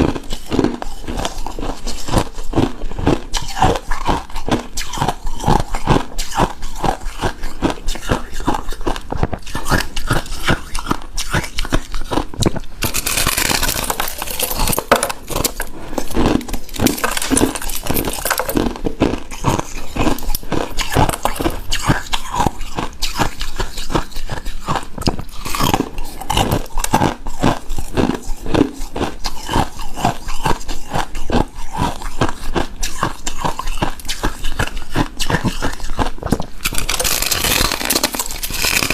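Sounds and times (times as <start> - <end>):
crunching and chewing shaved ice: 0.0 - 38.9.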